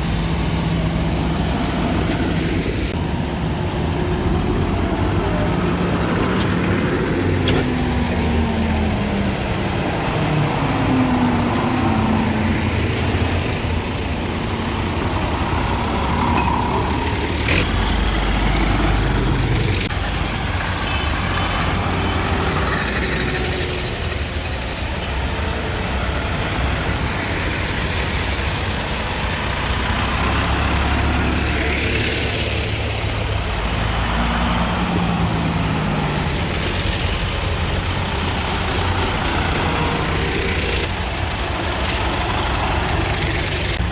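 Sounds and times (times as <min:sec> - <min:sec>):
tractor engines driving past: 0:00.0 - 0:43.9.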